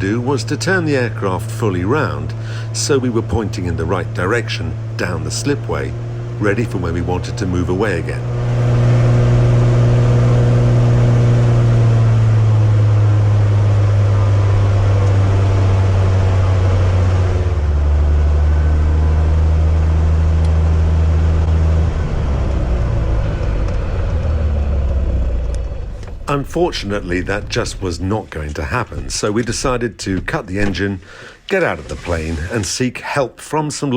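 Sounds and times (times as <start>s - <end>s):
propeller plane engine droning: 0.0s - 32.7s.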